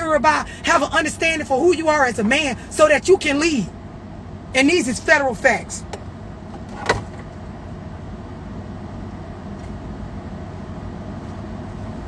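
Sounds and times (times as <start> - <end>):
car idling: 0.0 - 12.0.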